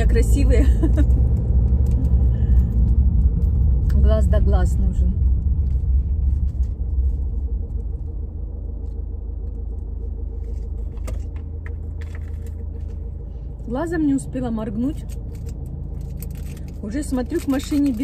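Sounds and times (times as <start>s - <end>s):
car engine rumble inside cabin: 0.0s - 18.0s
road noise: 0.0s - 18.0s.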